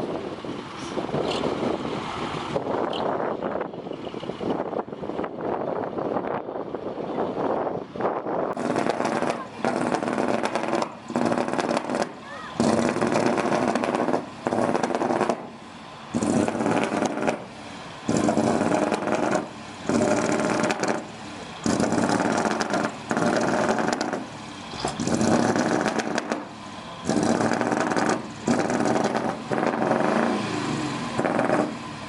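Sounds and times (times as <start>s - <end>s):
diesel truck engine revving: 0.0s - 32.0s.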